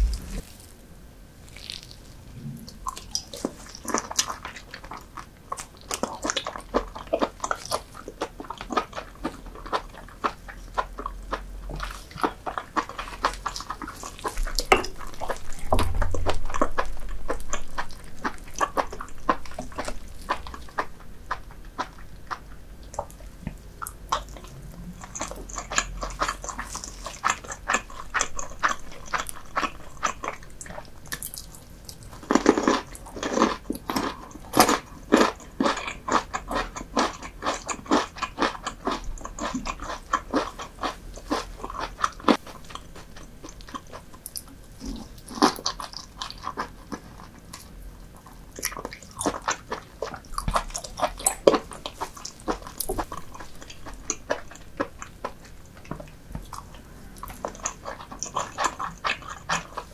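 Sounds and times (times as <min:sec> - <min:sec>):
person chewing and biting food: 0:00.0 - 0:00.7, 0:01.4 - 0:59.9.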